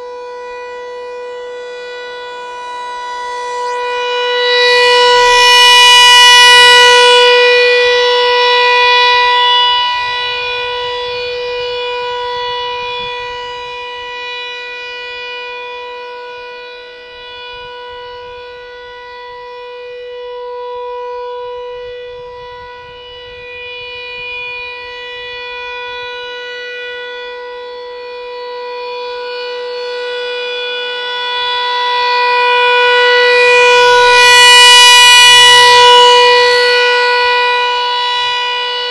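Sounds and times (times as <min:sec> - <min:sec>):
warning siren steady wail: 0:00.0 - 0:38.9.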